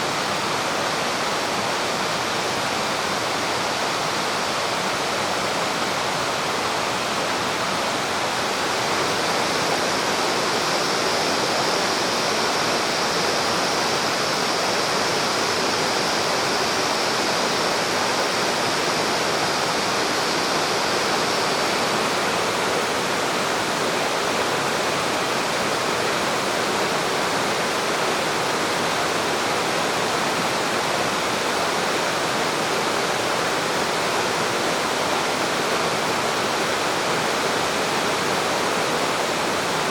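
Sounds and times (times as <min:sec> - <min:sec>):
stream rushing over rocks: 0:00.0 - 0:39.9
thin high hiss: 0:07.1 - 0:39.9.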